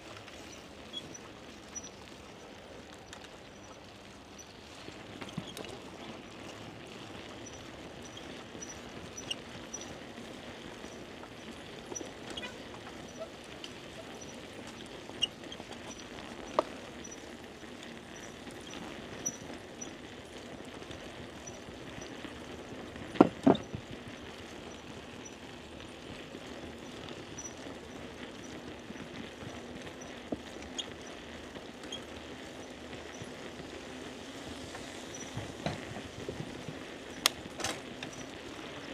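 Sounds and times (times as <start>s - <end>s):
bicycle tyre and ride noise: 0.0s - 38.9s.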